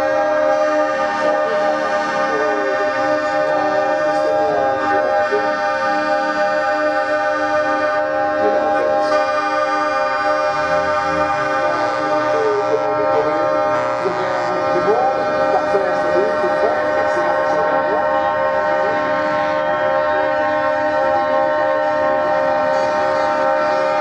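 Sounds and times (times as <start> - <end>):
faint wavering siren-like tones: 0.0 - 24.0
truck horns sounding: 0.0 - 24.0.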